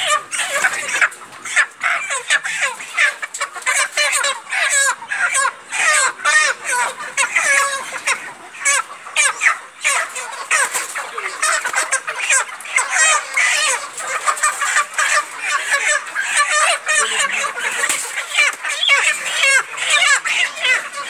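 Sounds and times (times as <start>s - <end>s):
flock of chickens calling: 0.0s - 21.0s.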